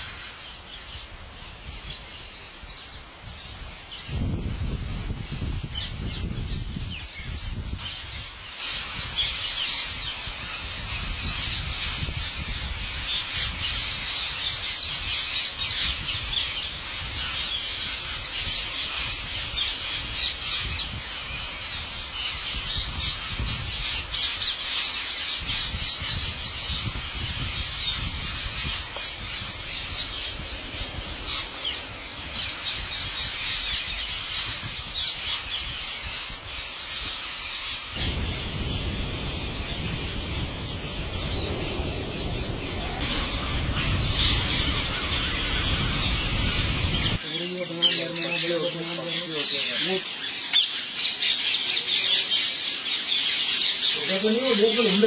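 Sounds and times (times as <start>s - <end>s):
parakeets screeching: 7.8s - 55.0s.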